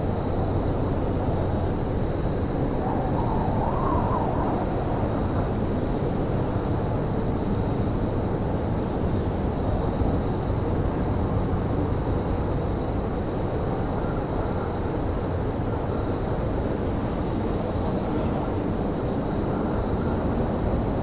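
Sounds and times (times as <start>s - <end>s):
faint high whine: 0.0s - 21.0s.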